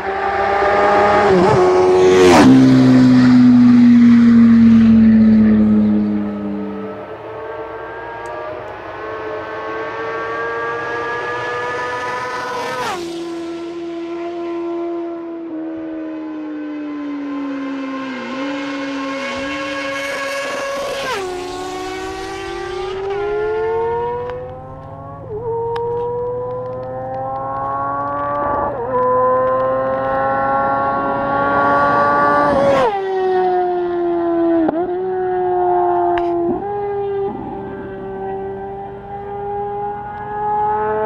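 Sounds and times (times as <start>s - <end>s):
motorbike engine accelerating through gears: 0.0s - 41.0s.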